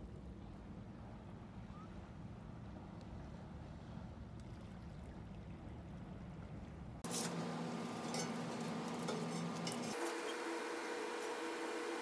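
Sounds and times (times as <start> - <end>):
steady low hum: 0.0 - 12.0
wind: 0.0 - 12.0.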